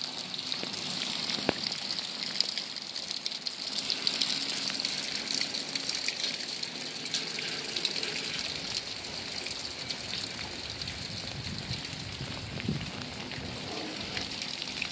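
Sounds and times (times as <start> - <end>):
rain falling on puddles: 0.0 - 14.9.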